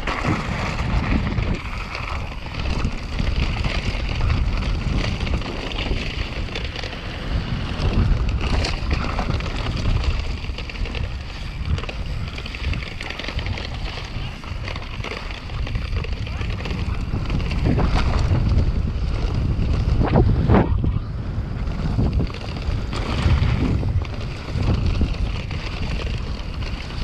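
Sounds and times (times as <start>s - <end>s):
bike rumbling and rattling: 0.0s - 27.0s
wind buffeting microphone: 0.0s - 27.0s.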